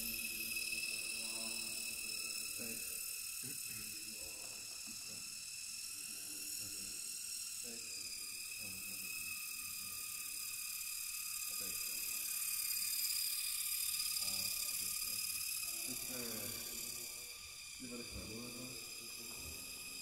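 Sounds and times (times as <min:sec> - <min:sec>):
model plane motor whine: 0:00.0 - 0:20.0.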